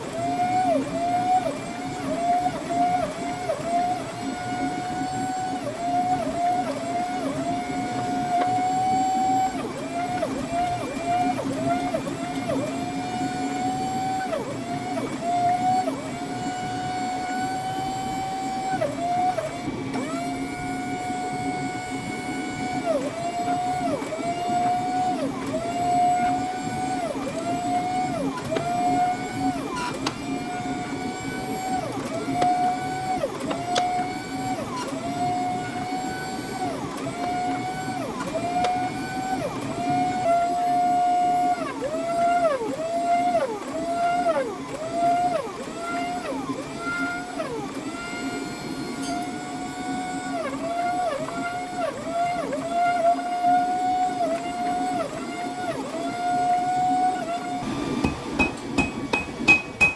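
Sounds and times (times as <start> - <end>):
motor-driven machine whining: 0.0 - 59.9.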